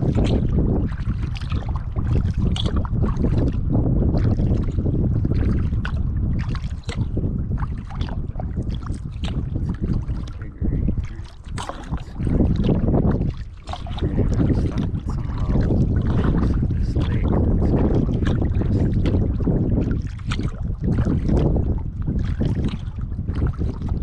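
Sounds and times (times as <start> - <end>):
paddle splashing in water: 0.0 - 24.0
wind on microphone: 0.0 - 24.0.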